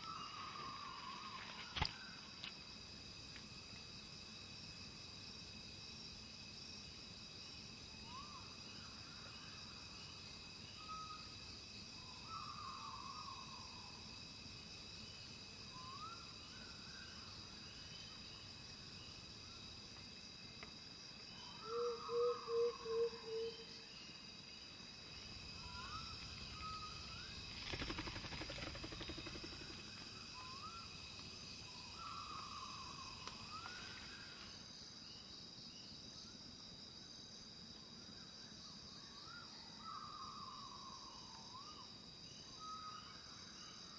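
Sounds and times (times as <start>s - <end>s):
high insect chorus: 0.0s - 43.9s.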